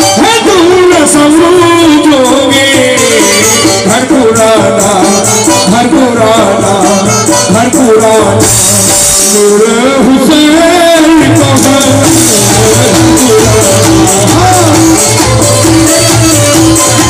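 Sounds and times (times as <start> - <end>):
harmonium: 0.0 - 17.0
person singing: 0.0 - 17.0
tabla beat: 0.0 - 17.0.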